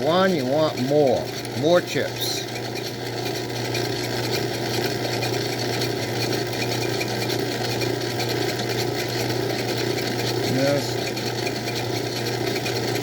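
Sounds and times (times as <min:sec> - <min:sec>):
lathe running: 0:00.0 - 0:13.0
tool cutting workpiece: 0:00.0 - 0:13.0.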